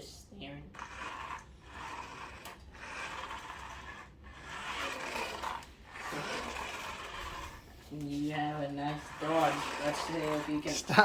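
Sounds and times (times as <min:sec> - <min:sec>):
toy car motor whirring: 0:00.0 - 0:11.0.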